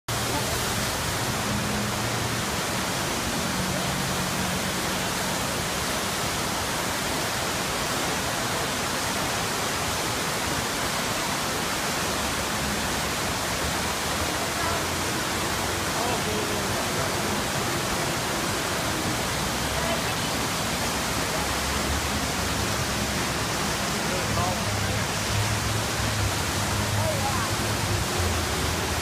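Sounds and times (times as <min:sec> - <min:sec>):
waterfall rushing into pool: 0:00.1 - 0:29.0.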